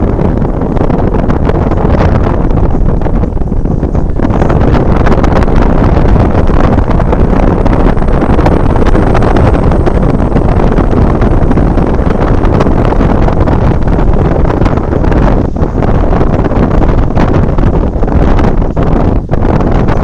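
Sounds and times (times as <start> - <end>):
car road noise: 0.0 - 19.3
wind rushing over microphone: 0.0 - 20.0.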